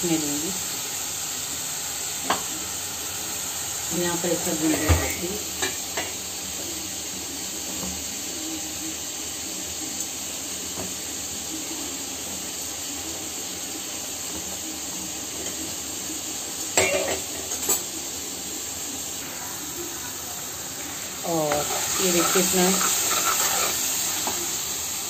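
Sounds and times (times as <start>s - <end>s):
gas stove burner hissing: 0.0s - 25.0s
vegetables sizzling in a pan: 0.0s - 25.0s.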